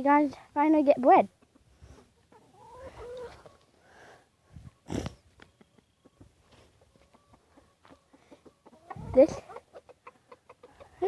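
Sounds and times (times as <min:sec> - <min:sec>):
chickens pecking: 0:01.3 - 0:03.8, 0:04.7 - 0:11.0.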